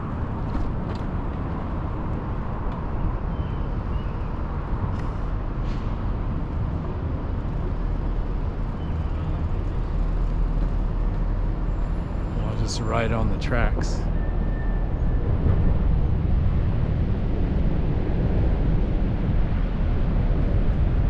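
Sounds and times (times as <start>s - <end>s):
low rumble of street traffic: 0.0s - 21.0s.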